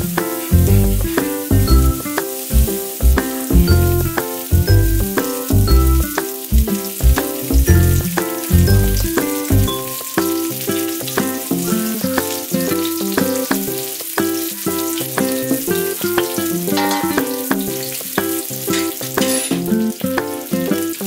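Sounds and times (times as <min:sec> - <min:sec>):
background music of struck notes: 0:00.0 - 0:21.0
onions and garlic sizzling: 0:00.0 - 0:21.0.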